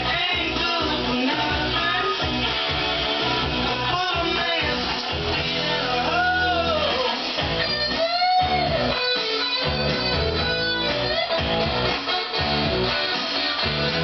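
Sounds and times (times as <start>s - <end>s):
guitar music with bending notes: 0.0s - 14.0s.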